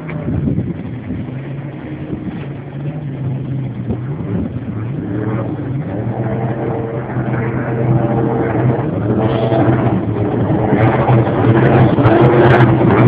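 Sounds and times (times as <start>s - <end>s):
boat engine revving: 0.0s - 13.0s.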